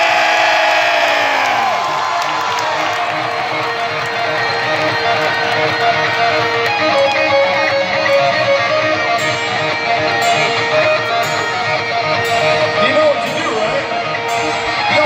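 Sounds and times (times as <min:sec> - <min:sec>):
picked electric guitar melody: 0:01.8 - 0:15.0.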